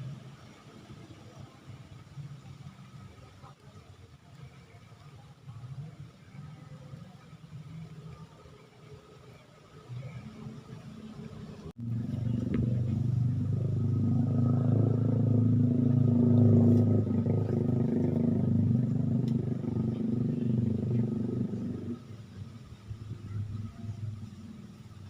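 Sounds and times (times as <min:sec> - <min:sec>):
small engine droning: 0:00.0 - 0:25.0.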